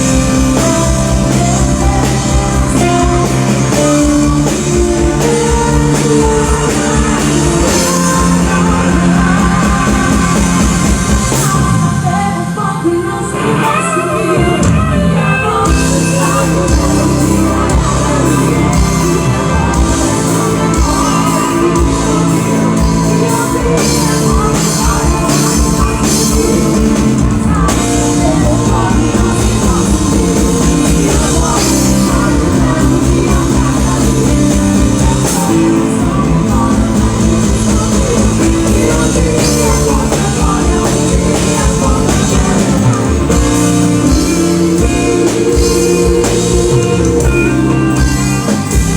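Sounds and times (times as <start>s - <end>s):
loud rock band music: 0.0s - 48.9s.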